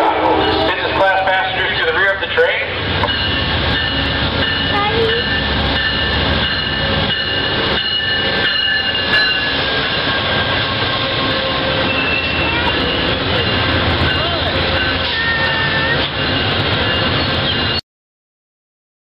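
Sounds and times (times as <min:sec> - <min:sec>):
train rumbling past: 0:00.0 - 0:17.8.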